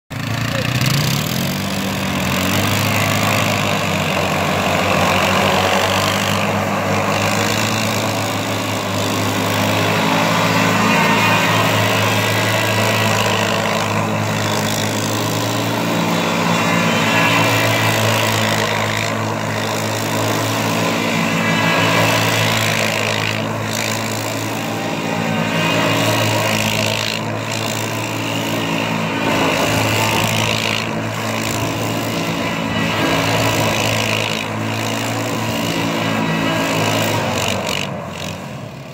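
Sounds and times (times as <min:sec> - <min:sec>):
atv engines revving: 0:00.1 - 0:38.9.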